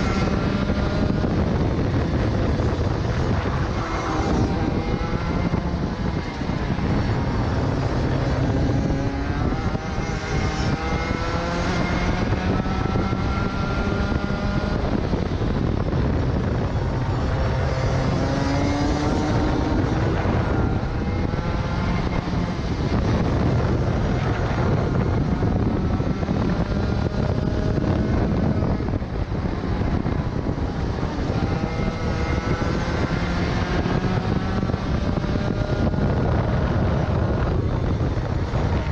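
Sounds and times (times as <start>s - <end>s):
kart engine revving: 0.0s - 38.9s
wind rush on microphone: 0.0s - 38.9s.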